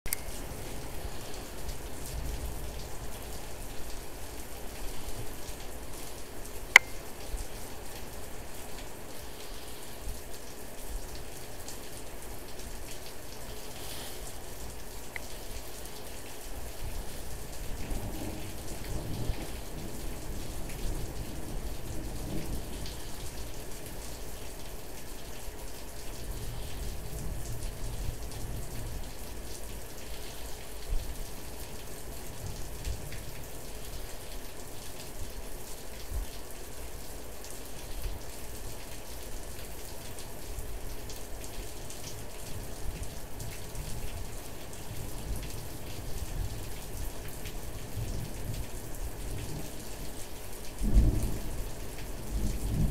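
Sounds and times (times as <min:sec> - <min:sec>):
raindrops ticking near microphone: 0:00.0 - 0:52.9
steady rain falling: 0:00.1 - 0:52.9.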